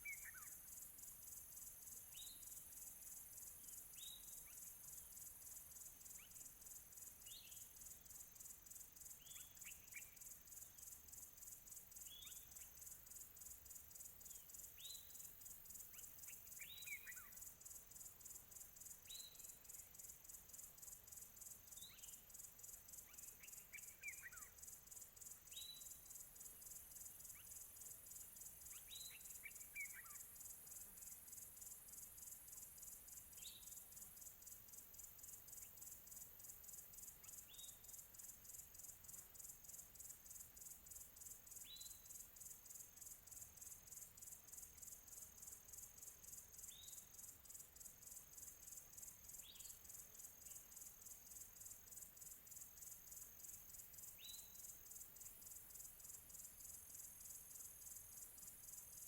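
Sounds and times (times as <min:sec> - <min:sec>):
insect trill: 0:00.0 - 0:59.0.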